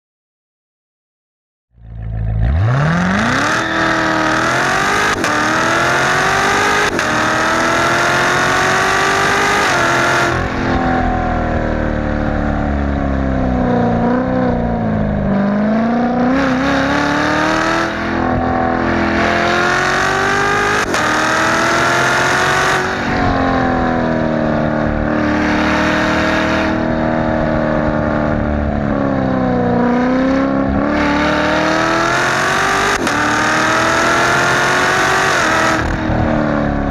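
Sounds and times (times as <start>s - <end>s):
car engine accelerating: 1.8s - 36.9s.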